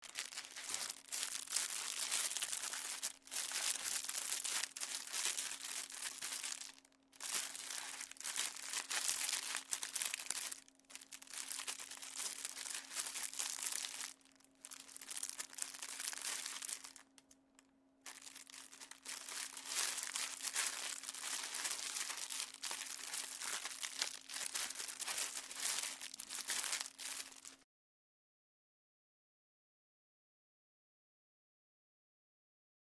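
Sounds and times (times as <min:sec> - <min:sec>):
plastic crumpling and crinkling: 0:00.0 - 0:17.3, 0:18.1 - 0:27.6
faint steady hum: 0:00.0 - 0:27.6.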